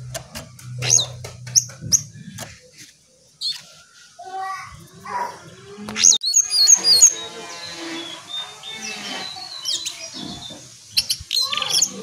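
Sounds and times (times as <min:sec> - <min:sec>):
songbird singing: 0:00.0 - 0:04.3, 0:05.1 - 0:12.0.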